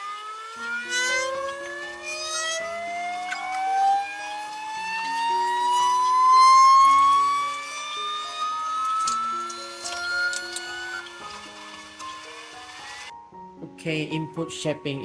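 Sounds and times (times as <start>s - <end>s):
printer motors whining: 0.0s - 13.1s.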